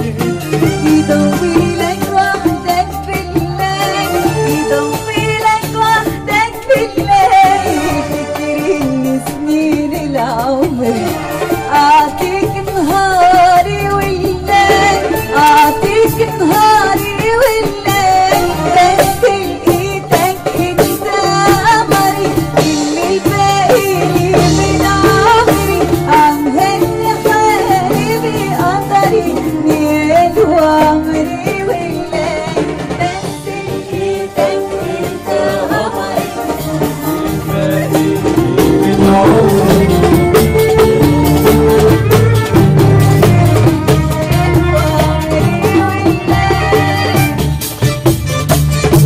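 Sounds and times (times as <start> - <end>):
woman singing: 0.0 - 47.7
hand percussion beat: 0.0 - 49.0.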